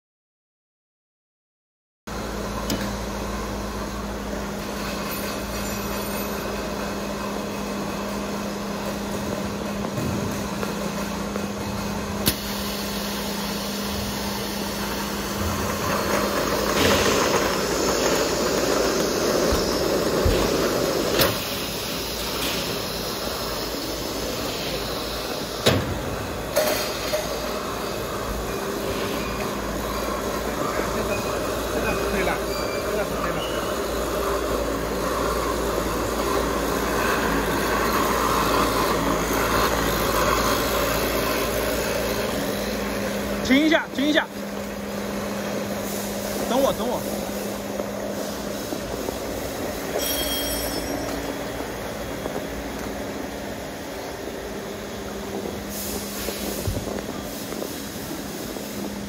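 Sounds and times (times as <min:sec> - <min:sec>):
conveyor machinery hum: 0:02.1 - 0:59.0.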